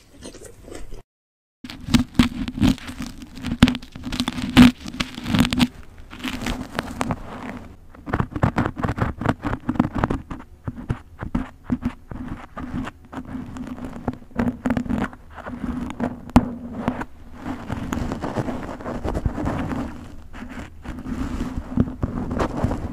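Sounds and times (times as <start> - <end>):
comb scratching through hair: 1.7 - 22.9
low hum: 1.7 - 22.9.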